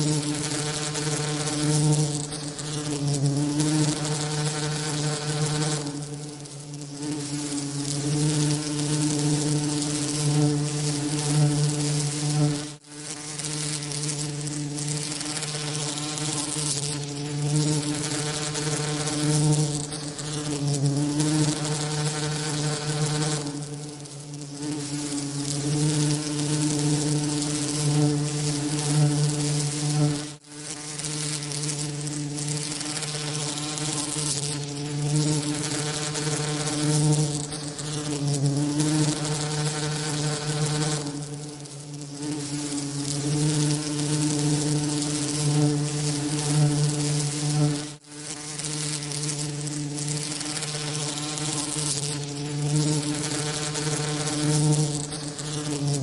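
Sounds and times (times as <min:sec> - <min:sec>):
bee wings buzzing: 0:00.0 - 0:56.0.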